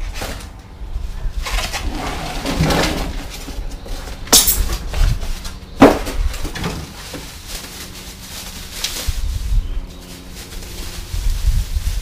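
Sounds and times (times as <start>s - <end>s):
cardboard and foam rustling: 0.0s - 12.0s.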